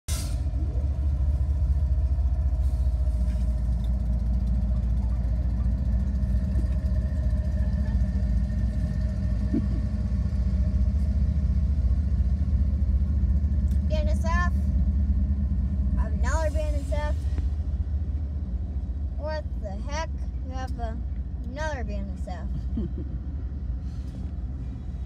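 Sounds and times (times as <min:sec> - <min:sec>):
diesel locomotives rumbling past: 0:00.1 - 0:25.0.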